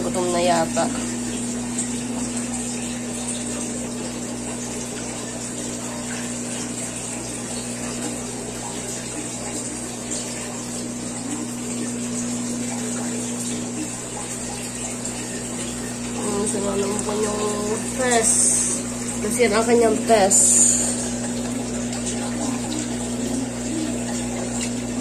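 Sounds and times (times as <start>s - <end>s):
aquarium pump hum: 0.0s - 25.0s
bubbling water: 0.0s - 25.0s.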